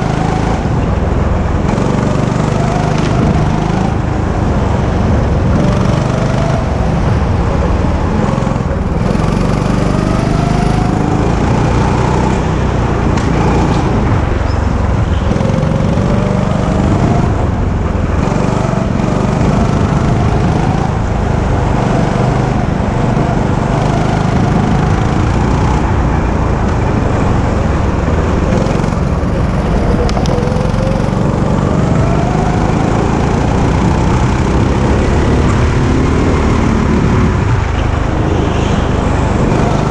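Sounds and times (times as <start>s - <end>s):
go-kart engine accelerating: 0.0s - 39.9s.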